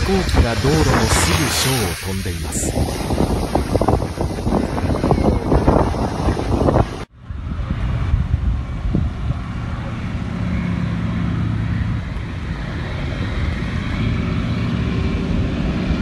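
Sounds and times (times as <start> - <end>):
propeller plane engine running: 0.0 - 16.0
wind rumbling on microphone: 0.0 - 16.0.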